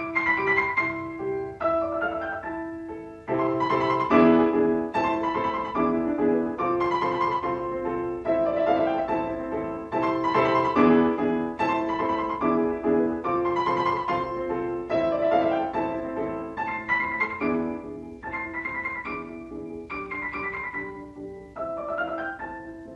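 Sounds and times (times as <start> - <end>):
instrumental piano music: 0.0 - 22.9.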